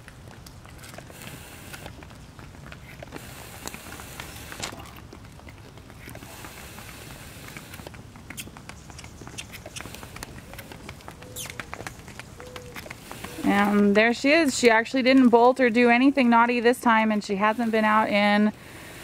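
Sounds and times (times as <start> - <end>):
hooves trotting on asphalt: 0.0 - 19.0.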